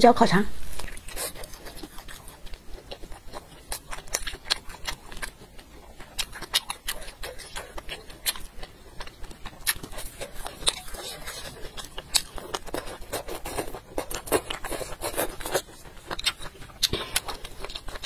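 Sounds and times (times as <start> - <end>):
chewing with wet mouth clicks: 0.7 - 18.0.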